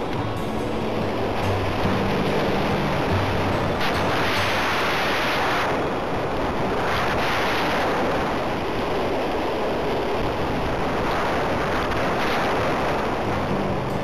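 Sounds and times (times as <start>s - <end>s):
wind hiss over microphone: 0.0s - 14.0s.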